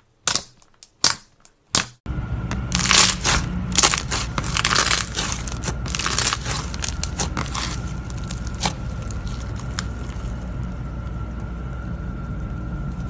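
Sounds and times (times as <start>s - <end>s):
steady hum: 2.0s - 13.0s
dry material crunching and crackling: 2.5s - 13.0s.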